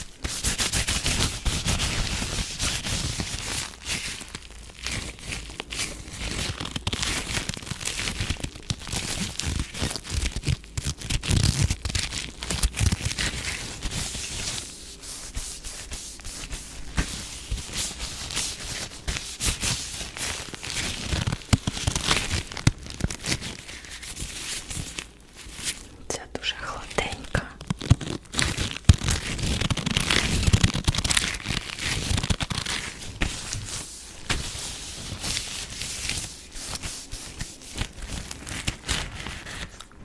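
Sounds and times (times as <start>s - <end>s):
crackly rustling of skin: 0.0s - 40.0s.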